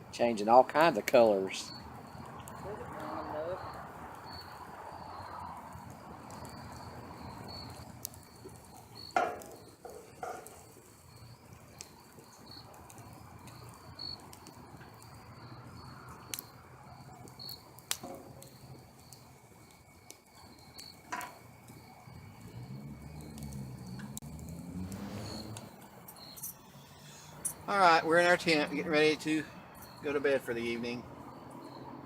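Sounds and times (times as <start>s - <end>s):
campfire crackling and popping: 0.0s - 32.0s
crickets chirping: 0.1s - 32.0s.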